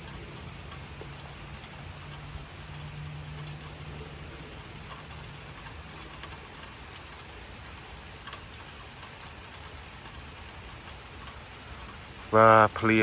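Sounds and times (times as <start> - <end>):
light rain falling: 0.0 - 13.0
raindrops ticking on surfaces: 0.0 - 13.0.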